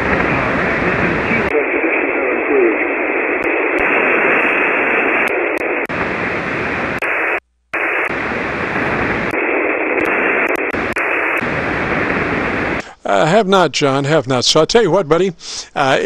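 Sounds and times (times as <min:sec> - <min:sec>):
radio hiss and static: 0:00.0 - 0:16.0.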